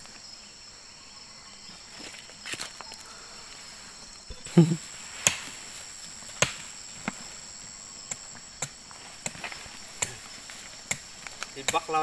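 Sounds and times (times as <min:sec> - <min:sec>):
forest insects droning: 0:00.0 - 0:12.0.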